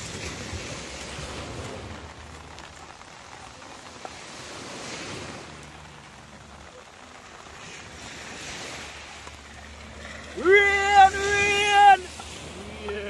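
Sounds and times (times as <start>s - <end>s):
surf washing on shore: 0.0s - 13.0s.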